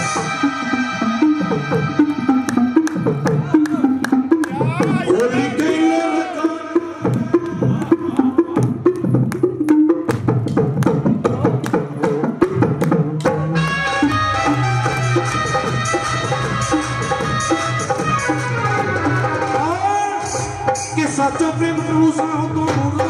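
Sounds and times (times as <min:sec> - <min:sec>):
electronic keyboard melody: 0:00.0 - 0:10.1, 0:13.2 - 0:22.3
hand drum beat: 0:01.5 - 0:21.1.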